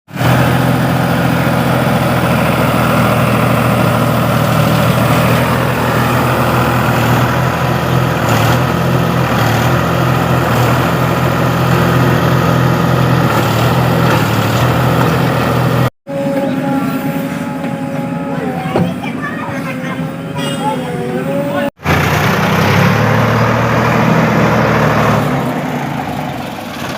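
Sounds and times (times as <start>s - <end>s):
heavy diesel engine running: 0.1s - 26.9s.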